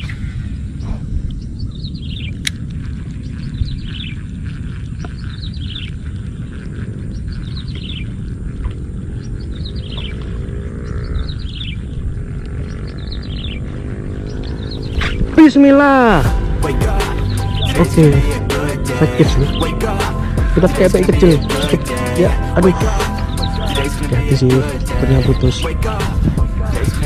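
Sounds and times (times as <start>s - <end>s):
bird calling: 0.0s - 26.0s
steady low rumble: 0.0s - 27.0s.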